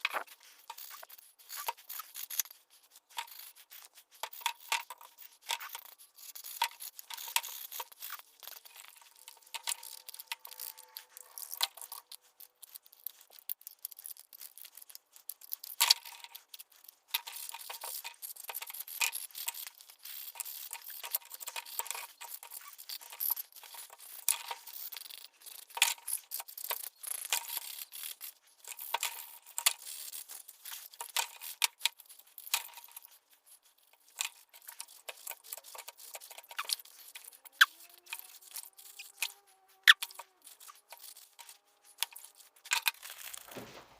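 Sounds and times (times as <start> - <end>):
scraping strokes on small parts: 0.0 - 43.9.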